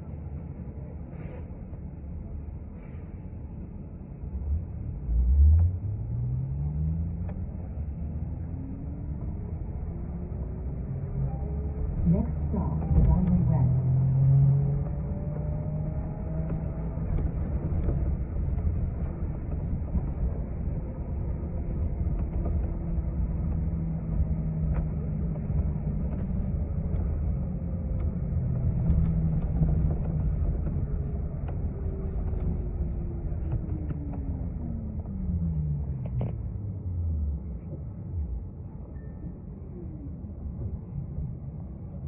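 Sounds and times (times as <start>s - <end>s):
bus engine and road rumble: 0.0s - 42.0s
faint whine: 7.1s - 42.0s.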